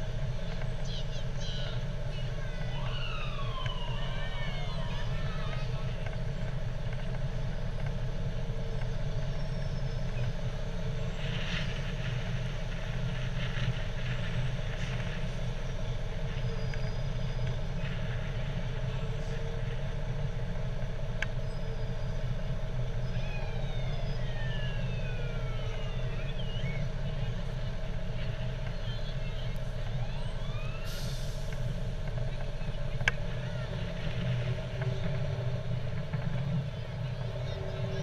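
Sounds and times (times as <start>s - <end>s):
fire truck engine humming: 0.0s - 38.0s.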